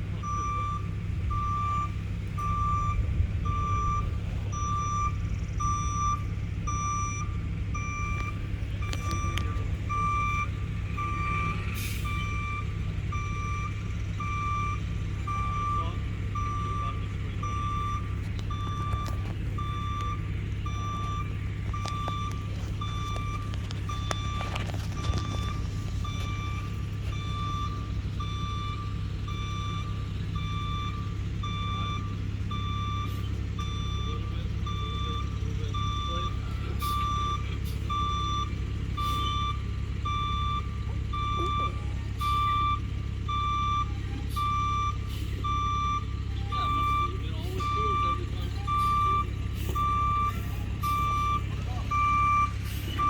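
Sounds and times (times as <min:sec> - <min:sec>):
backup alarm beeping: 0:00.0 - 0:53.0
engine humming: 0:00.0 - 0:53.0.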